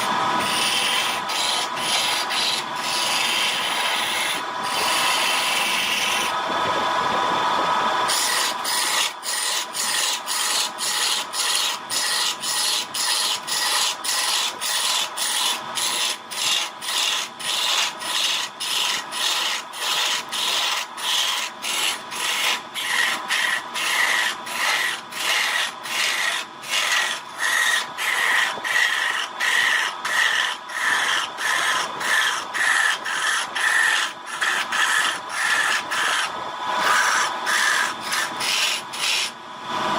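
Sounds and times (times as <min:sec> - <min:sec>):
wood rasping strokes: 0:00.0 - 0:06.4, 0:08.1 - 0:39.3
rushing noise with faint hum: 0:00.0 - 0:39.9.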